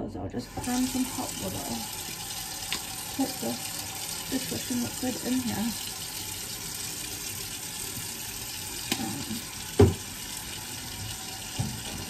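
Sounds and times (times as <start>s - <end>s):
tap water running into sink: 0.5s - 12.0s.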